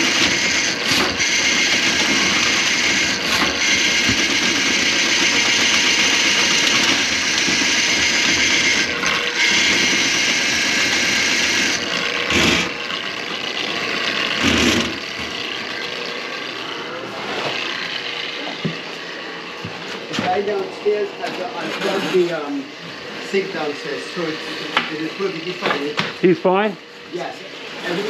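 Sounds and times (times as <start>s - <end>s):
drain-cleaning machine running: 0.0s - 28.0s.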